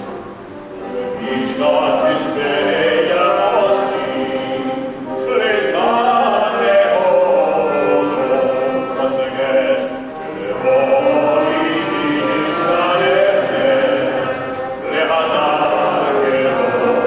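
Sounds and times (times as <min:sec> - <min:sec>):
voices singing long notes: 0:00.0 - 0:17.0.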